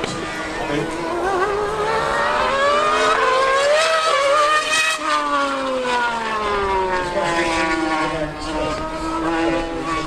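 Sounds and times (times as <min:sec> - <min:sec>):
motorcycle engine revving: 0:00.0 - 0:10.0
race car engine revving: 0:00.0 - 0:10.0.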